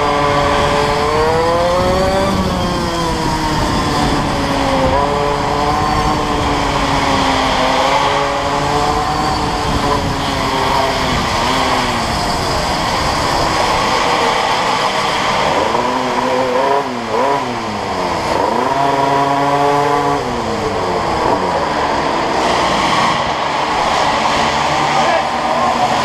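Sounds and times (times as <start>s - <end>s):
go-kart engine revving: 0.0s - 26.0s.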